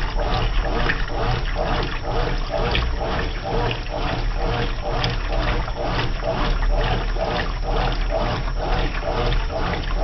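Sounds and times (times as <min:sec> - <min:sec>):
washing machine water sloshing: 0:00.0 - 0:10.0.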